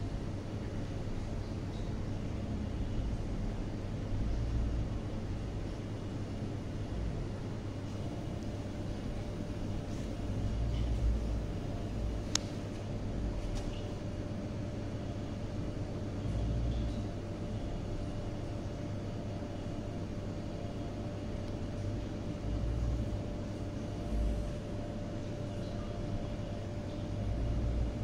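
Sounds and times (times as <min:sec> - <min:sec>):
kitchen machinery hum: 0:00.0 - 0:28.0.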